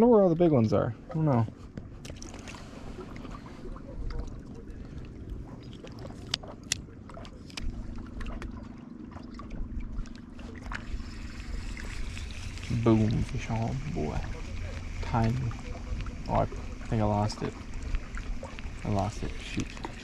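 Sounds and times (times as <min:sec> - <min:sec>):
faint steady hum: 0:00.0 - 0:20.0
low wind rumble: 0:00.0 - 0:20.0
water lapping against rocks: 0:01.0 - 0:20.0.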